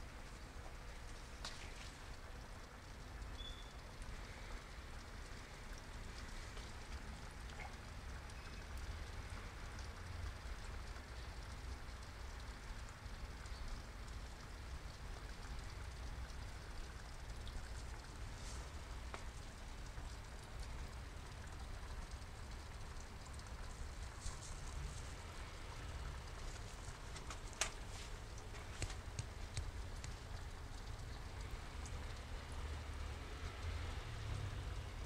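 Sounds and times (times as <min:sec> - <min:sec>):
water splashing onto pond: 0:00.0 - 0:35.0.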